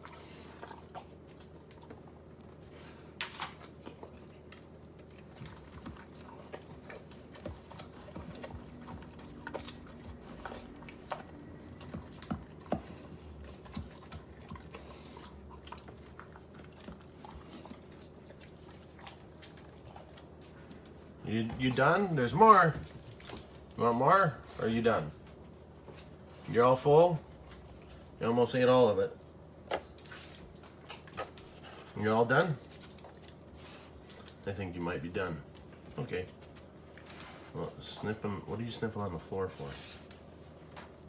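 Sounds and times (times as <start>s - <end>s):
dog chewing lettuce: 0.0s - 41.0s.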